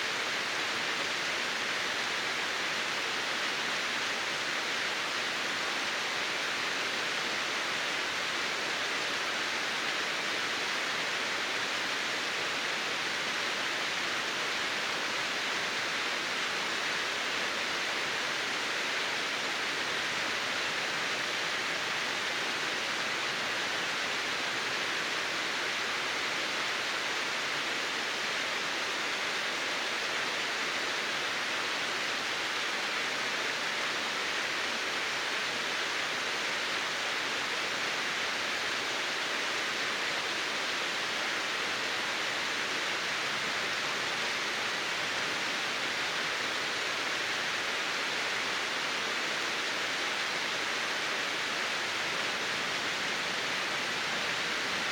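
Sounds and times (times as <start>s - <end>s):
water rushing: 0.1s - 54.9s.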